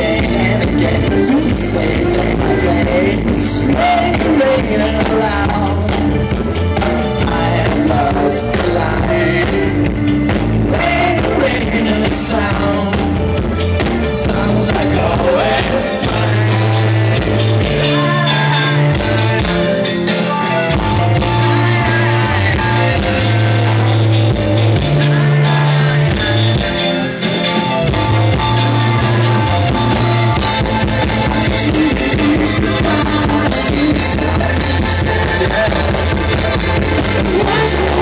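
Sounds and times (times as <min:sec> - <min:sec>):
person singing: 0:00.0 - 0:09.9, 0:14.0 - 0:38.0
bass line: 0:00.0 - 0:38.0
rock band playing: 0:00.0 - 0:38.0.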